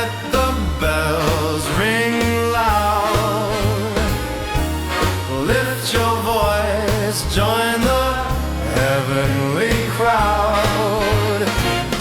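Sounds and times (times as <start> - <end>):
band with steady bass: 0.0 - 12.0
person singing with vibrato: 0.0 - 12.0.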